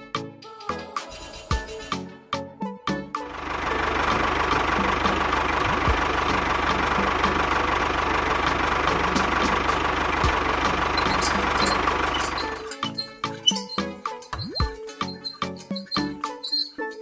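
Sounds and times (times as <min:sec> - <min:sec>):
small engine running: 0:03.3 - 0:17.0.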